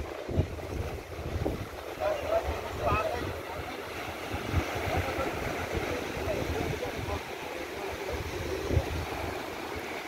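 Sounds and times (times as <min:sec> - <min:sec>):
wind buffeting microphone: 0:00.0 - 0:07.3, 0:07.9 - 0:10.0
sea surf washing on beach: 0:00.0 - 0:10.0.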